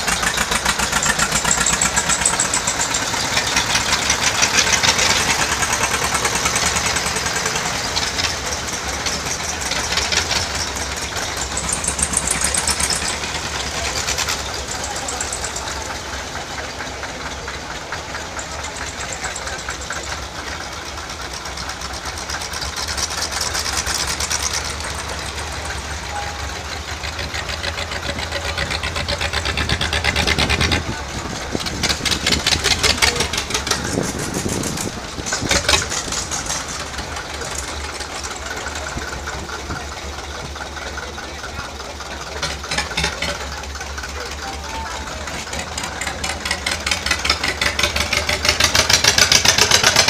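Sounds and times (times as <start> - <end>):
tractor diesel engines passing: 0.0 - 50.0.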